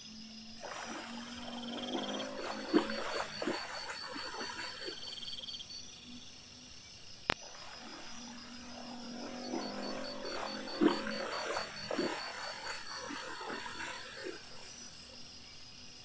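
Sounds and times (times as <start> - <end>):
frogs croaking: 0.0 - 16.0
insects chirping: 0.0 - 16.0.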